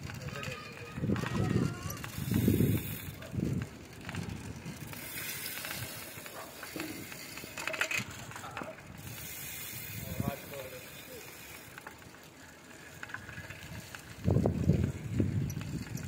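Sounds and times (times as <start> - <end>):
bicycle rattling: 0.0 - 16.0
bicycle rolling on rough lane: 0.0 - 16.0.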